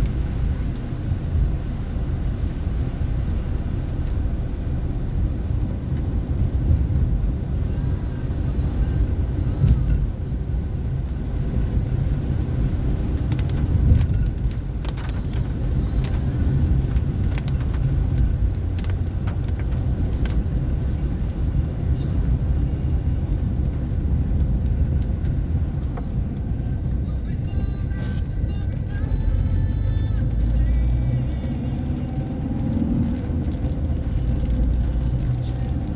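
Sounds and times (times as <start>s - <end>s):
car engine and tyre rumble: 0.0s - 35.9s.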